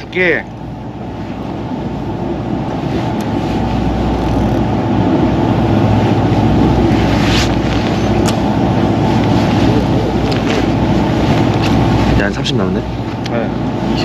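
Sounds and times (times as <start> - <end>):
boat engine rumble: 0.0 - 14.0
sea noise: 0.0 - 14.0
wind on microphone: 0.0 - 14.0.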